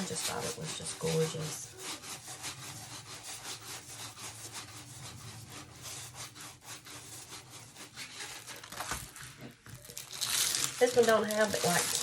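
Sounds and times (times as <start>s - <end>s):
dry scraping of canvas by hand: 0.0s - 9.5s, 10.2s - 12.0s.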